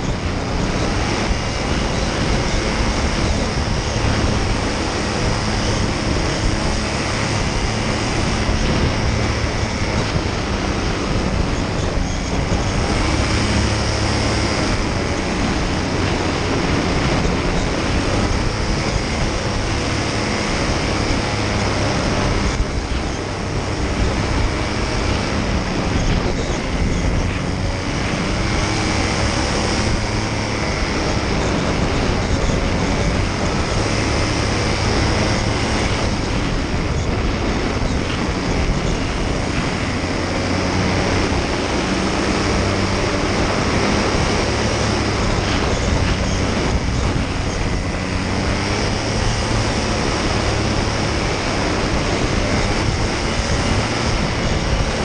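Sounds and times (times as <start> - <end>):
engine and propeller drone: 0.0 - 55.0
rushing air: 0.0 - 55.0.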